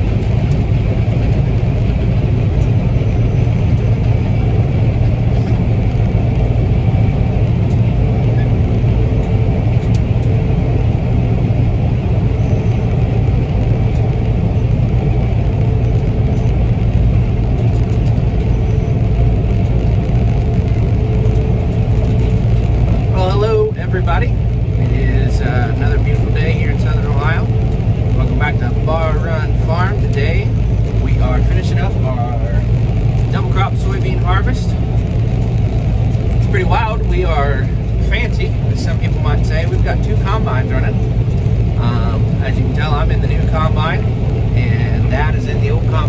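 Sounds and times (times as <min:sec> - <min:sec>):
combine harvester rumbling: 0:00.0 - 0:46.0
faint steady whine: 0:00.0 - 0:46.0.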